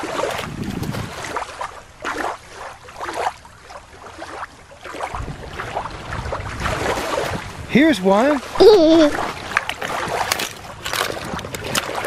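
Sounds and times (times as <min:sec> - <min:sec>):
river water lapping at shore: 0:00.0 - 0:12.0
wind rumbling on microphone: 0:00.0 - 0:12.0.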